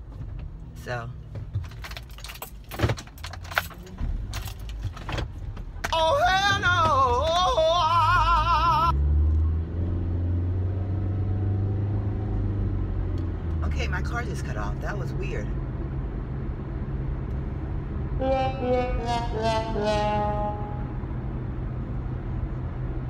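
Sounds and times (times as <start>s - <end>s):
car engine hum: 0.0s - 23.0s.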